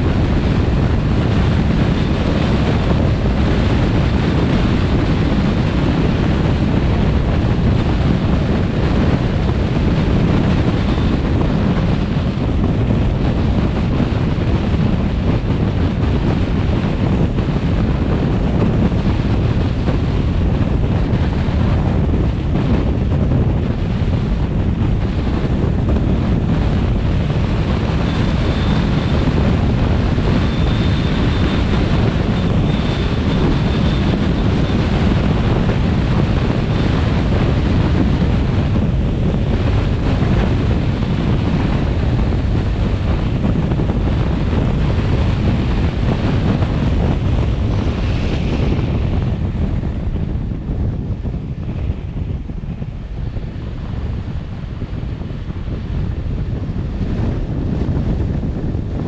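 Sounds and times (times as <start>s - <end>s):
road noise: 0.0s - 59.0s
wind rushing over microphone: 0.0s - 59.0s.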